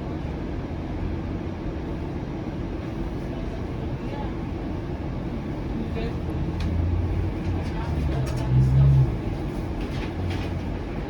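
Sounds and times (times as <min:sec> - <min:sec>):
streetcar cabin rumble: 0:00.0 - 0:11.0.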